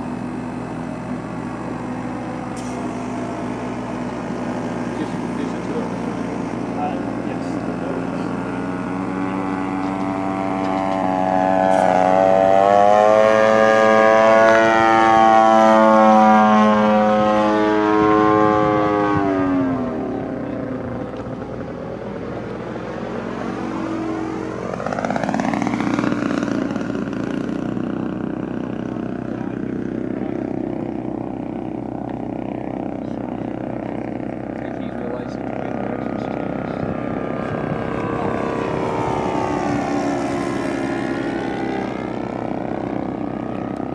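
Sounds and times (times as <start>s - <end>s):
model plane engine in flight: 0.0s - 43.9s.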